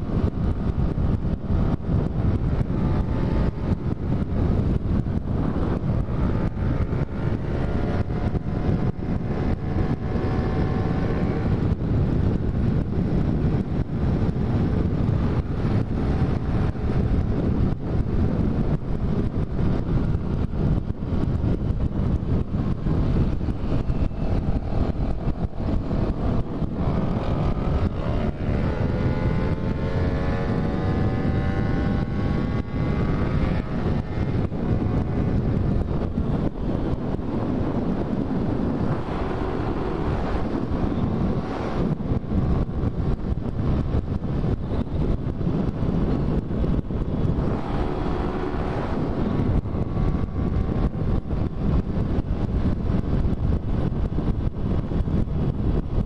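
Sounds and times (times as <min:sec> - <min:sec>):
motorcycle engine droning: 0:00.0 - 0:56.0
wind rushing over microphone: 0:00.0 - 0:56.0.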